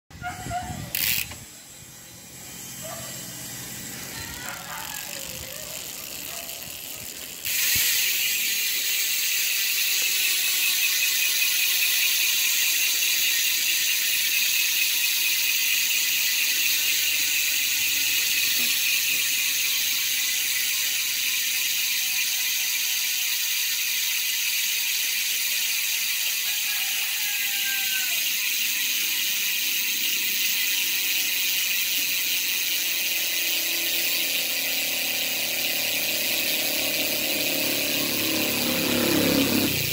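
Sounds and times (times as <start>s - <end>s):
bicycle hub ratcheting buzz: 0.1s - 39.9s.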